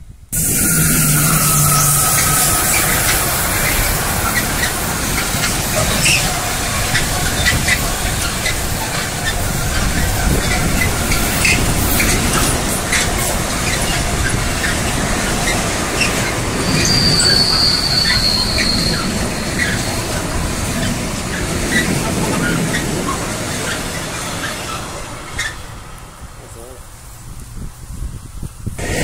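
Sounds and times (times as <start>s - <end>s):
high wheel squeal: 0.4s - 25.9s
train wheels clicking over rails: 0.4s - 27.6s, 28.6s - 29.0s.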